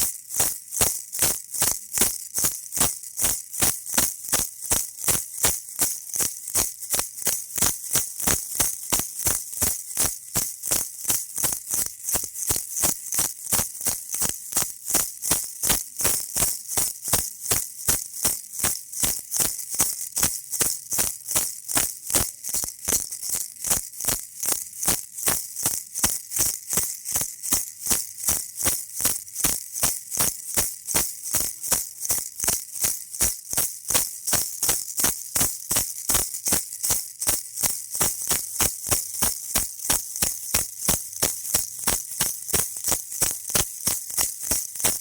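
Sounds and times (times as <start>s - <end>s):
baby rattle shaking: 0.0s - 45.0s.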